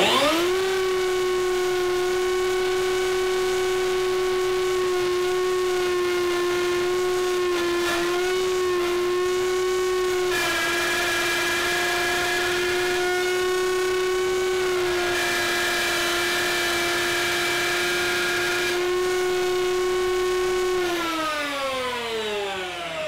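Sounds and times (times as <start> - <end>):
motor spinning down: 0.0 - 23.0
router whining while cutting wood: 0.0 - 23.0.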